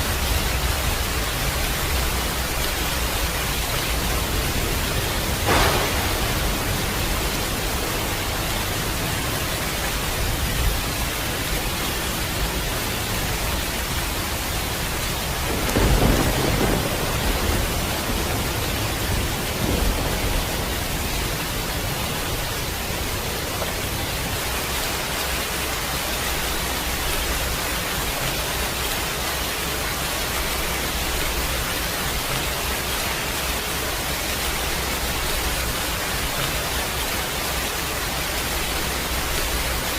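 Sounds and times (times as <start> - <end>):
heavy rain falling: 0.0 - 39.9
thunder rumbling: 0.1 - 33.0.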